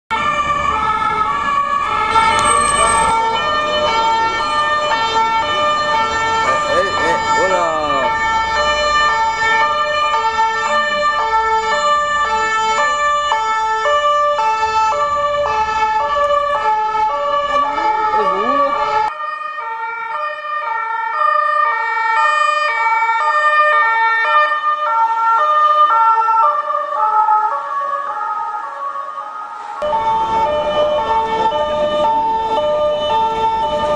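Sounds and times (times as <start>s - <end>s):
street traffic noise: 0.1s - 33.9s
two-tone police siren: 0.1s - 33.9s.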